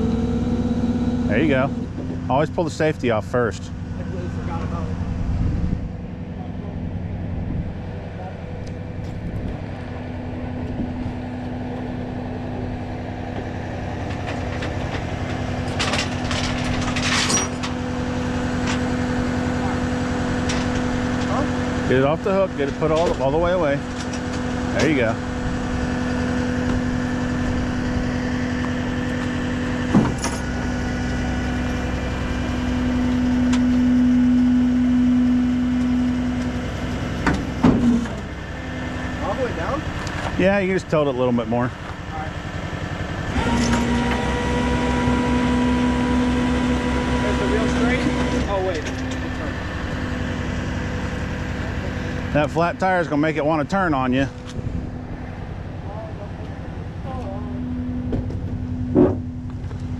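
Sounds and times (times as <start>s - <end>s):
tow truck engine under load: 0.0s - 59.9s
hydraulic winch whine: 8.9s - 59.9s.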